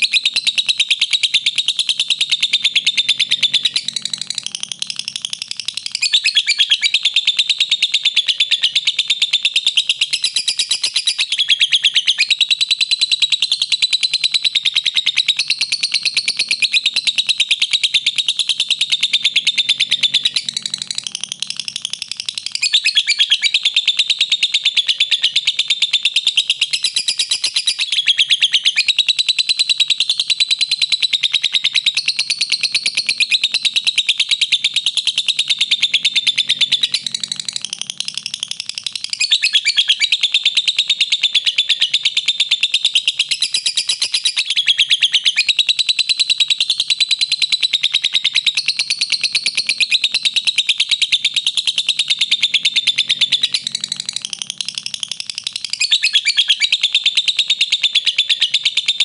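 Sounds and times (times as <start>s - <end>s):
bird chattering trill: 0.0s - 59.0s.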